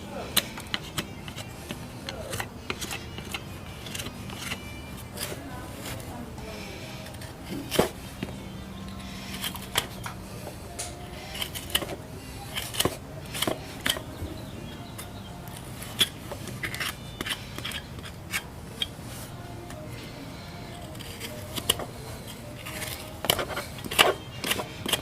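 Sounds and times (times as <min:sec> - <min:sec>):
hoof nippers clicking and snipping: 0:00.2 - 0:06.1, 0:07.0 - 0:19.0, 0:19.7 - 0:25.0.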